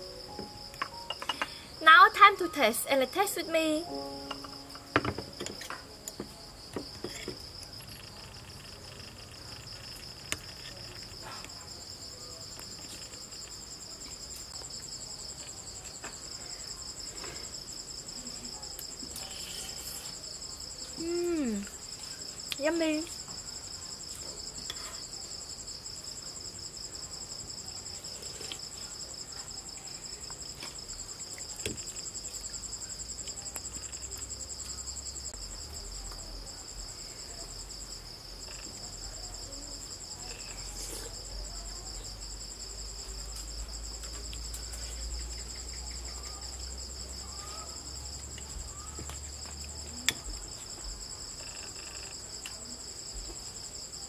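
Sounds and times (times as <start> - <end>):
crickets chirring: 0.0 - 54.0.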